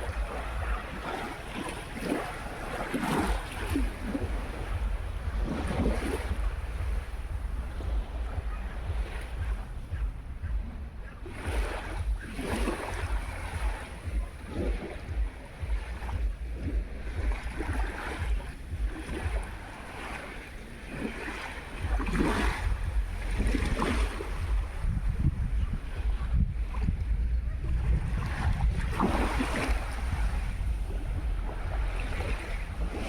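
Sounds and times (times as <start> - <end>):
waves washing onto shore: 0.0 - 33.0
wind buffeting microphone: 0.0 - 33.0.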